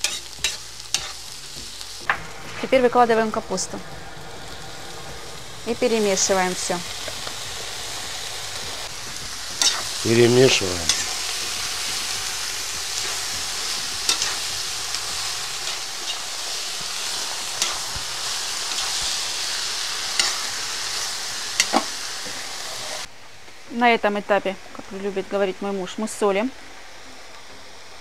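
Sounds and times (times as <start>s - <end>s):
vegetables sizzling in hot oil: 0.0s - 23.7s.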